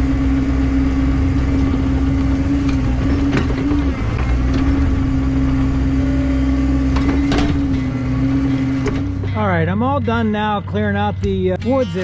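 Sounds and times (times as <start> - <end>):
excavator engine and hydraulics whine: 0.0 - 11.5.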